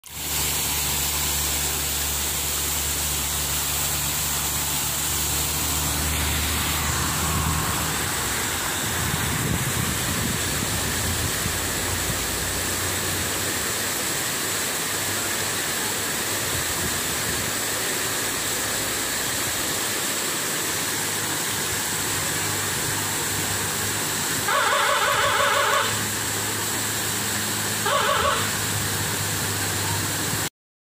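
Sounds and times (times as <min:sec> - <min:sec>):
waterfall rushing: 0:00.0 - 0:30.5.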